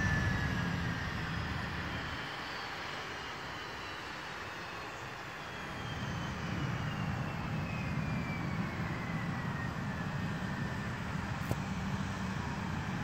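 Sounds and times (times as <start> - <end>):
jet engines rumbling and whining: 0.0 - 13.0.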